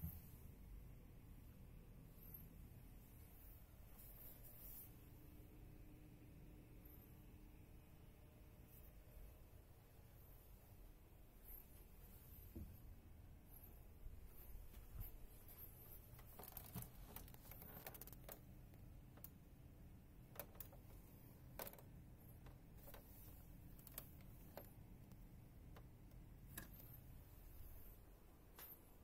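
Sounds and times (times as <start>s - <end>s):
faint room hum: 0.0s - 29.0s.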